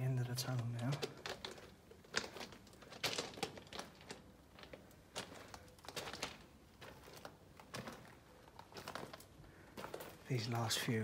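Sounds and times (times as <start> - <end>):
footsteps crunching on stones: 0.2 - 10.8.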